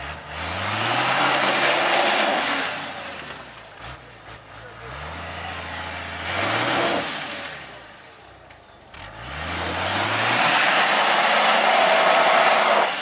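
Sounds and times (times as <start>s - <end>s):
off-road engine revving: 0.0s - 13.0s.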